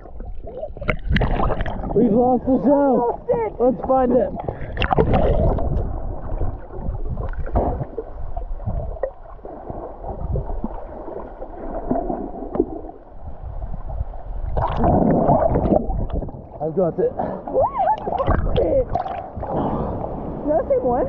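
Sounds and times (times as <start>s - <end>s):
rush of water: 0.0s - 12.9s, 14.4s - 21.0s
seawater sloshing and gurgling: 0.0s - 21.0s.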